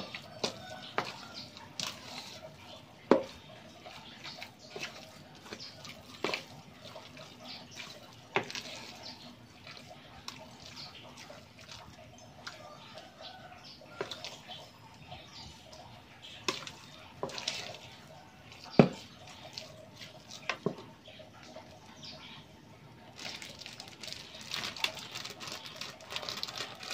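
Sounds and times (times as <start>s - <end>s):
wet squelching of kneaded meat: 0.0s - 26.9s.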